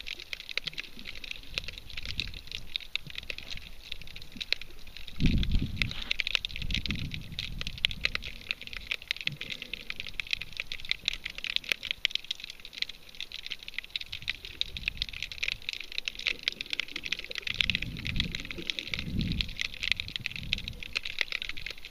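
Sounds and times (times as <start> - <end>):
underwater water rushes: 0.0 - 21.9.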